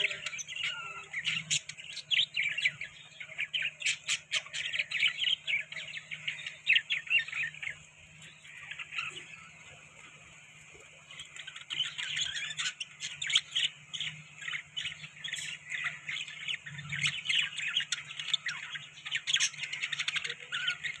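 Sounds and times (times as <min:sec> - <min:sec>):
budgerigars chattering: 0:00.0 - 0:10.2, 0:10.8 - 0:21.0.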